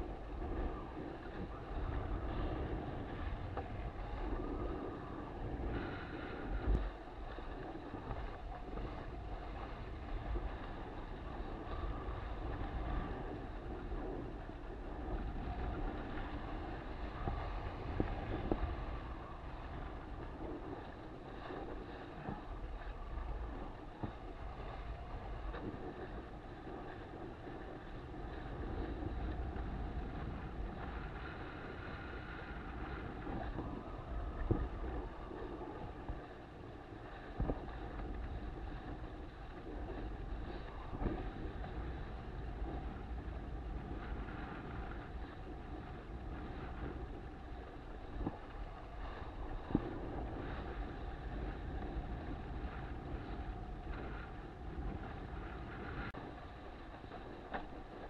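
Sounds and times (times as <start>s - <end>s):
water splashing along hull: 0.0s - 58.0s
wind buffeting microphone: 0.0s - 58.0s.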